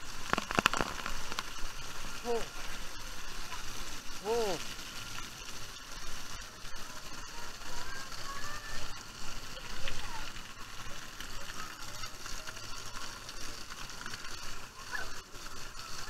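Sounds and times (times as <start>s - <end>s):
spraying water hiss: 0.0s - 16.0s.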